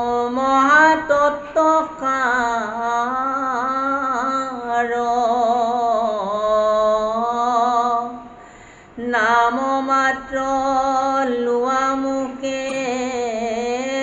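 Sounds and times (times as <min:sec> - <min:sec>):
man singing slow chant: 0:00.0 - 0:08.3, 0:09.0 - 0:14.0.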